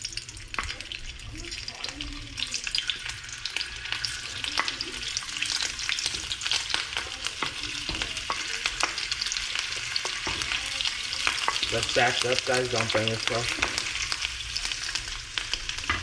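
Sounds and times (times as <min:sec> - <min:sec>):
food sizzling in oil: 0:00.0 - 0:16.0
oil popping and crackling: 0:00.0 - 0:16.0.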